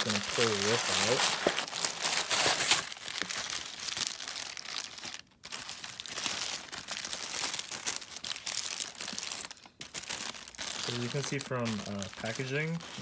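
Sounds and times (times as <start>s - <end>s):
packaging wrap crinkling: 0.0s - 13.0s.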